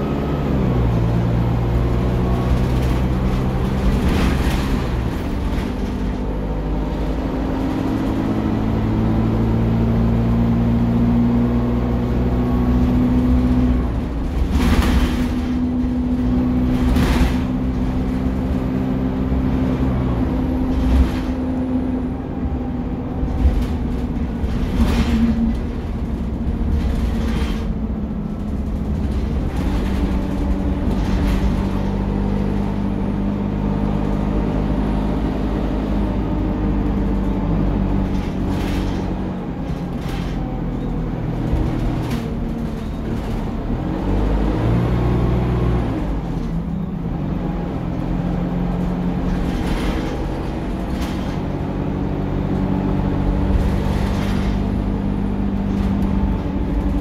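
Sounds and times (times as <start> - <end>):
bus engine: 0.0 - 57.0
bus body knocks and rattles: 1.6 - 57.0.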